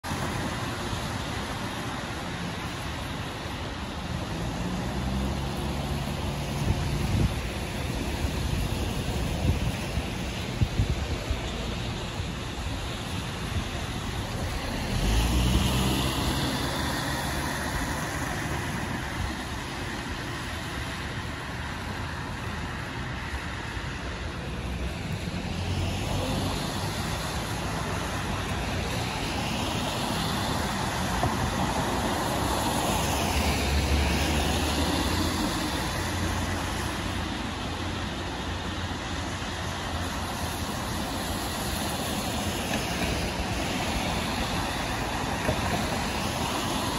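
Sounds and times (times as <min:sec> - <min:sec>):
cars passing on wet road: 0:00.0 - 0:46.9.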